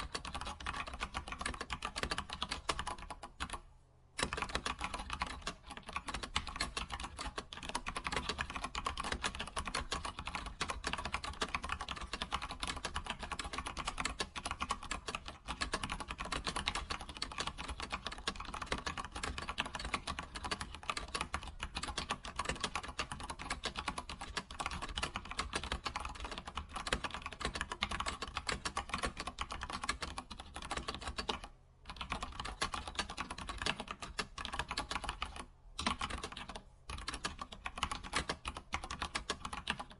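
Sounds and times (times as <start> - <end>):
fast typing on keyboard: 0.0 - 3.6, 4.2 - 39.9.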